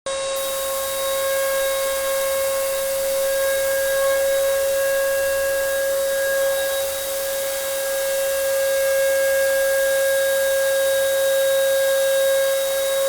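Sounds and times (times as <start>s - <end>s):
electric power tool whining: 0.2s - 13.0s.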